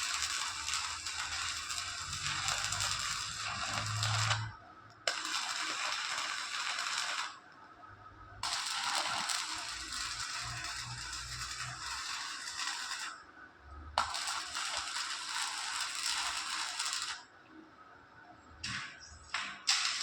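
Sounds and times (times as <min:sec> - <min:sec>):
welding arc crackling: 0:00.0 - 0:07.4, 0:08.4 - 0:13.2, 0:14.0 - 0:17.3, 0:18.6 - 0:20.0.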